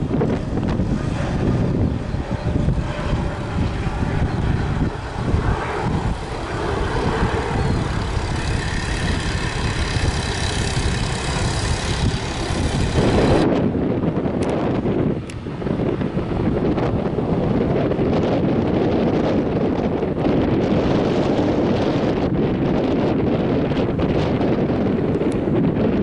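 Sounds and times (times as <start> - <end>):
jet engines whining: 0.0 - 26.0
wind buffeting microphone: 0.0 - 26.0.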